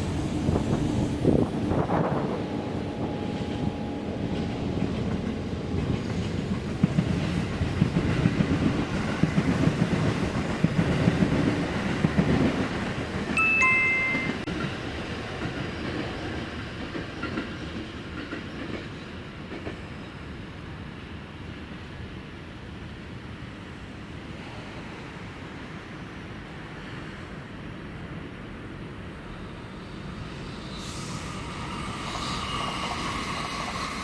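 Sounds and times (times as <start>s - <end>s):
train rumble and wheel clatter: 0.0s - 34.0s.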